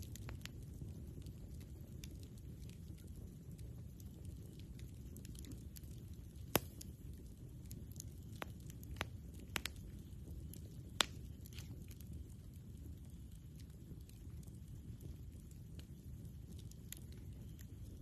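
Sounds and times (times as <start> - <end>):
campfire crackling: 0.0 - 18.0
low steady rumble: 0.0 - 18.0
sharp fire pops: 0.0 - 18.0.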